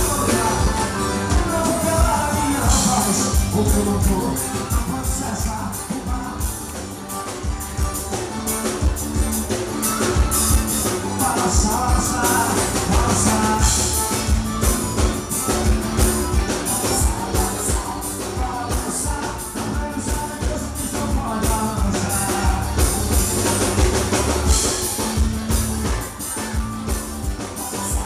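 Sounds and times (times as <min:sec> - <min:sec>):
band music: 0:00.0 - 0:28.0
steady drum beat: 0:00.0 - 0:28.0.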